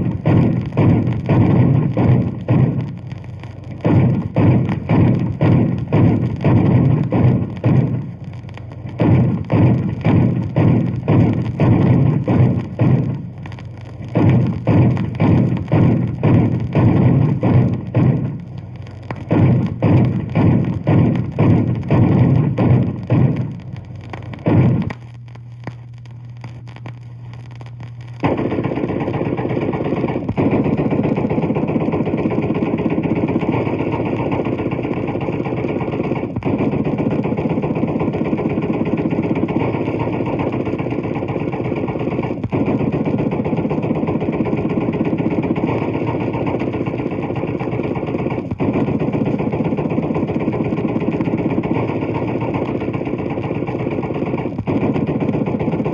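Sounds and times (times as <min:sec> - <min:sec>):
anti-aircraft gunfire: 0:00.0 - 0:55.9
low record hum: 0:00.0 - 0:55.9.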